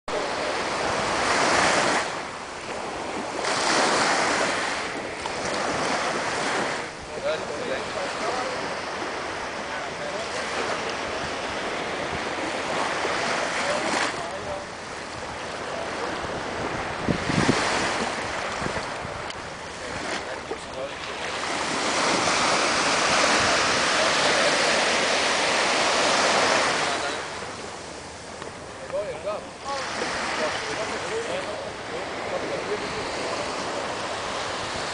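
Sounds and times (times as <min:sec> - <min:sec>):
sea surf breaking on beach: 0:00.1 - 0:34.9
waves washing up shore: 0:00.1 - 0:34.9
wind buffeting microphone: 0:00.2 - 0:34.9.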